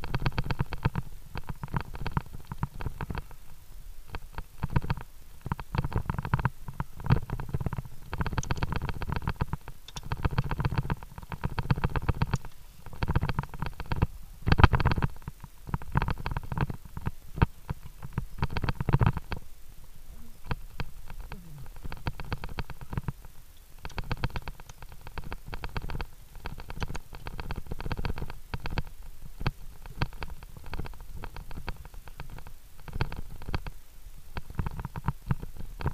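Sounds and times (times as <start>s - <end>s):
scratchy rustling against camera: 4.1s - 19.5s, 20.3s - 33.8s.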